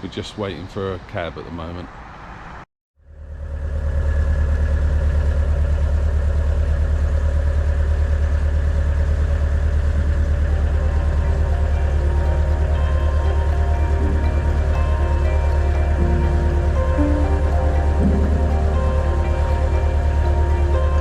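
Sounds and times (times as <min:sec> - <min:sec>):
engine running: 0:03.1 - 0:21.0.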